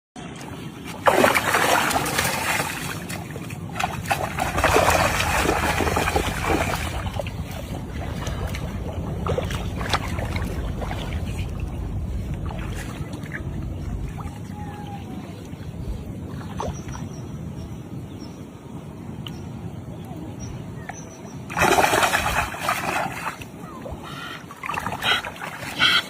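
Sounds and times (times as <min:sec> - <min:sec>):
steady low hum: 0:00.2 - 0:26.0
water splashing and sloshing: 0:00.2 - 0:26.0.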